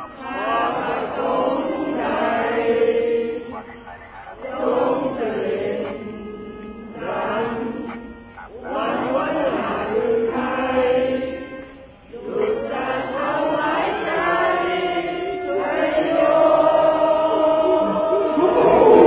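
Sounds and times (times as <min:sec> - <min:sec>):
voices chanting in held notes: 0:00.0 - 0:19.0.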